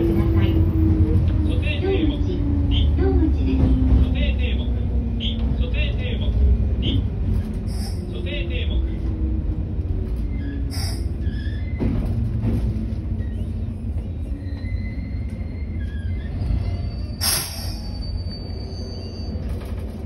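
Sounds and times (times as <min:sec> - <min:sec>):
electric train rumble: 0:00.0 - 0:20.0.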